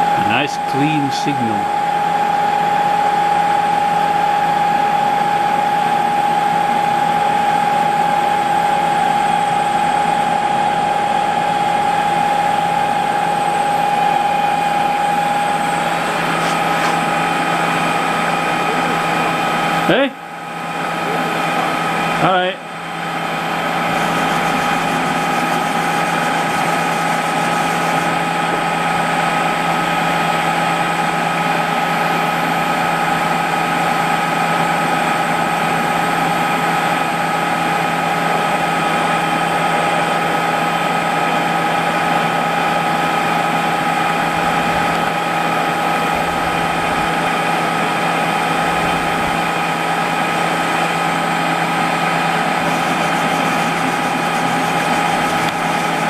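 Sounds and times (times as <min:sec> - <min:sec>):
steady whining tones: 0:00.0 - 0:30.4, 0:36.2 - 0:56.0
lathe machine drone: 0:00.0 - 0:56.0.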